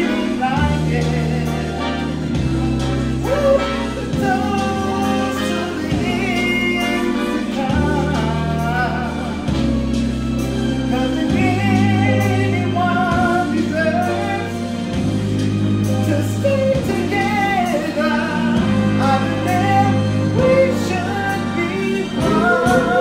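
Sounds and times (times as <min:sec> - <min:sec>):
man singing with vibrato: 0:00.0 - 0:10.1, 0:10.9 - 0:15.0, 0:15.9 - 0:23.0.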